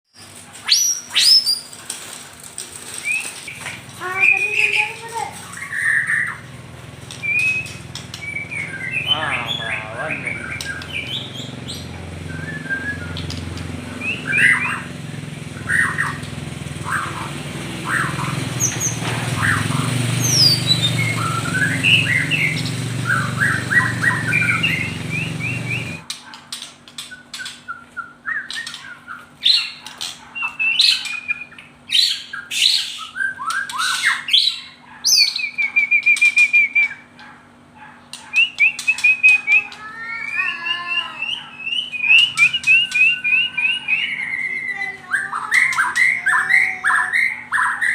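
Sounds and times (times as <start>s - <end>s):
songbird chirping and trilling: 0.1s - 1.8s, 2.9s - 47.9s.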